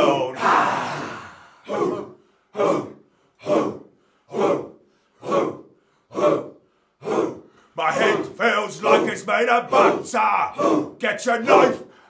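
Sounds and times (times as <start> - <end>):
group shouting in unison: 0.0 - 11.9.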